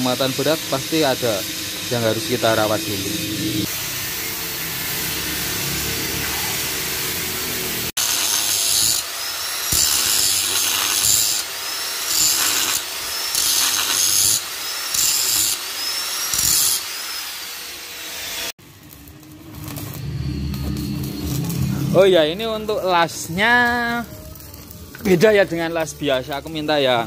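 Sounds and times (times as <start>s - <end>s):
gas torch hissing: 0.0s - 16.9s, 18.5s - 27.0s
angle grinder grinding metal: 0.0s - 27.0s.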